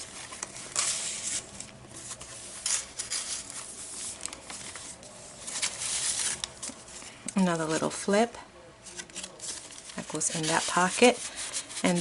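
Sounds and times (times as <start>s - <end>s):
paper rustling: 0.0s - 8.0s, 8.8s - 12.0s.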